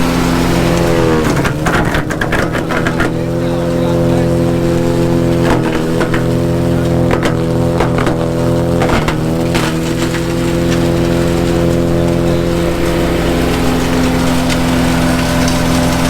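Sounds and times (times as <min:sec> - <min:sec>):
branch chipper engine running: 0:00.0 - 0:16.0
wood cracking and splintering: 0:00.0 - 0:16.0.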